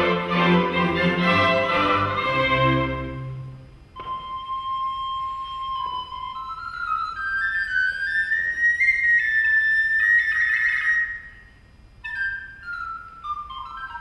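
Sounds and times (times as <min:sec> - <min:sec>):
recorder playing runs: 0:00.0 - 0:14.0.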